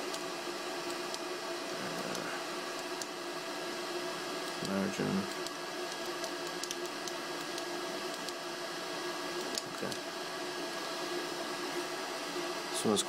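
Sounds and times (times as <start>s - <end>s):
cooling fans humming: 0.0s - 13.0s.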